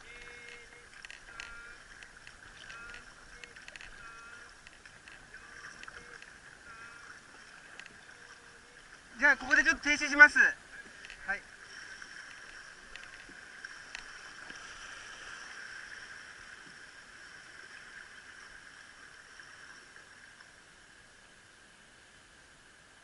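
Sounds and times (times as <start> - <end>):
water rushing along boat hull: 0.0 - 21.2.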